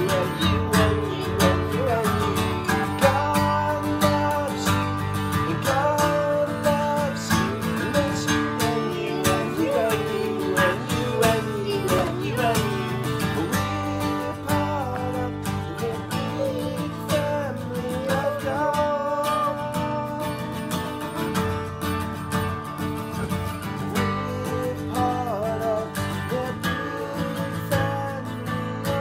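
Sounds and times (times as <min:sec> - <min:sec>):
man singing: 0:00.0 - 0:21.6, 0:23.4 - 0:29.0
acoustic guitar strumming: 0:00.0 - 0:29.0.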